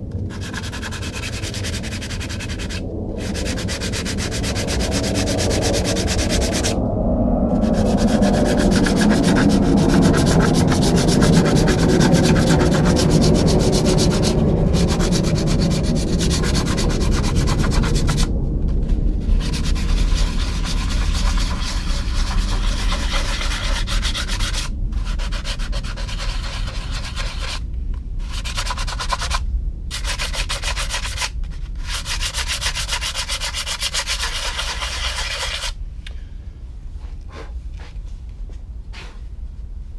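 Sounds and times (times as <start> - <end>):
sandpaper scratching back and forth: 0.2 - 6.8, 7.5 - 18.3, 19.2 - 27.6, 28.2 - 35.8.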